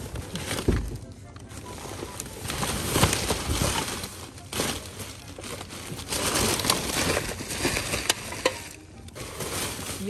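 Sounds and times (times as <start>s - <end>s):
plastic bags rustling and crinkling: 0.0s - 10.0s.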